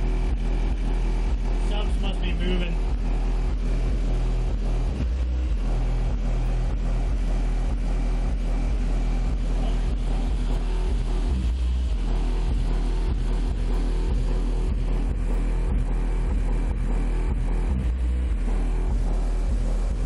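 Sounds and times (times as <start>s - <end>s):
subwoofer deep bass: 0.0s - 20.0s.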